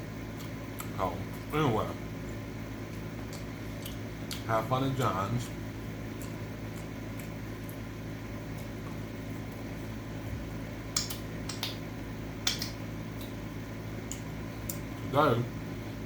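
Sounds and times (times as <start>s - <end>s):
air conditioner fan humming: 0.0s - 16.0s.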